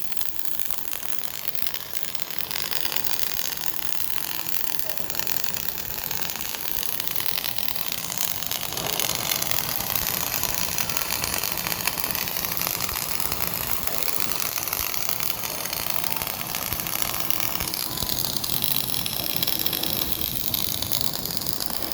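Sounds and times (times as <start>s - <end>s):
welding arc crackling: 0.0s - 21.9s.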